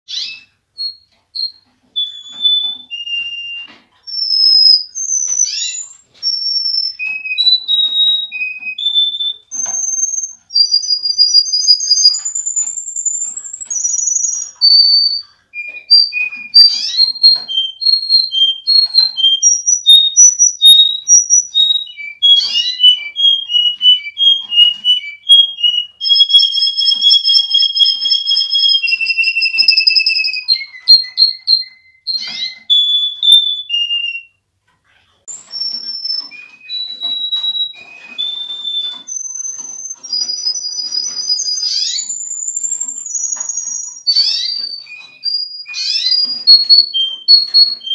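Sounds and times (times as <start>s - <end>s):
canary singing: 0.1s - 47.9s.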